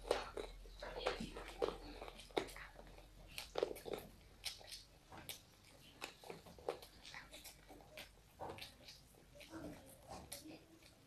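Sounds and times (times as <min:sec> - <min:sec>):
child chewing with wet smacks: 0:00.0 - 0:11.0.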